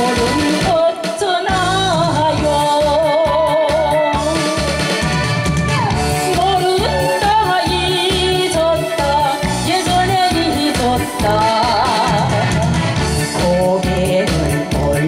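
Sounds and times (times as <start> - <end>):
woman singing into a microphone: 0.0 - 4.7, 6.0 - 15.0
backing track with steady beat: 0.0 - 15.0.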